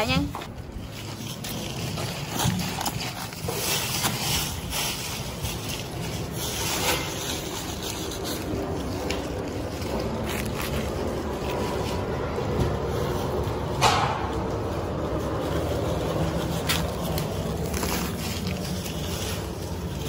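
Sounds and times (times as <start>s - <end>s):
crushed ice being handled: 0.0s - 20.0s
plastic crackling and rustling: 0.0s - 20.0s
steady rumbling noise: 0.0s - 20.0s.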